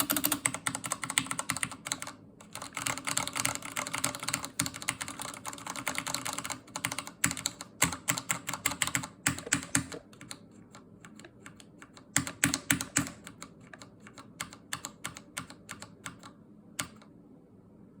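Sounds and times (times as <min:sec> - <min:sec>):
mechanical keyboard typing: 0:00.0 - 0:17.1.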